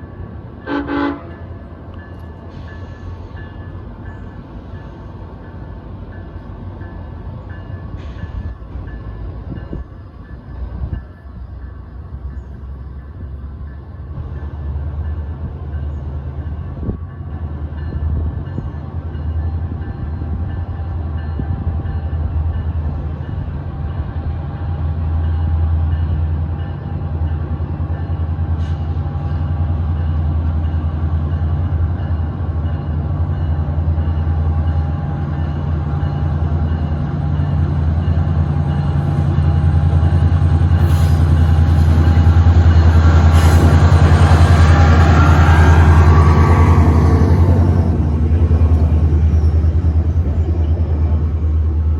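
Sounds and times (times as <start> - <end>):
train rumbling: 0.0 - 51.9.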